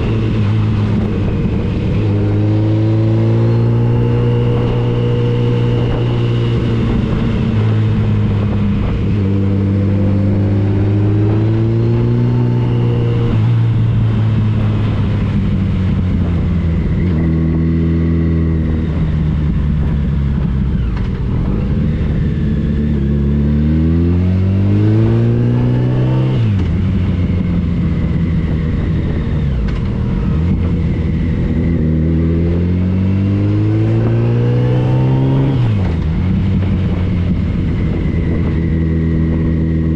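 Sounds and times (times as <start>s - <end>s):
motorcycle engine revving through gears: 0.0s - 39.9s
wind rush: 0.0s - 39.9s.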